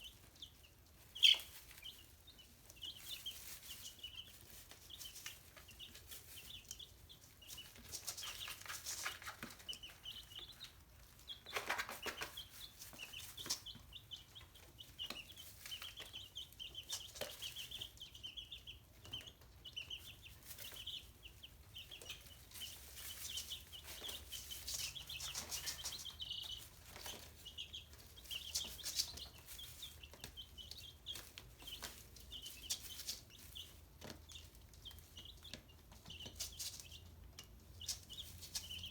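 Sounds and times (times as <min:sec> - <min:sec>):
chicks peeping: 0:00.0 - 0:38.9
rustling and clicking of birds moving: 0:00.0 - 0:38.9.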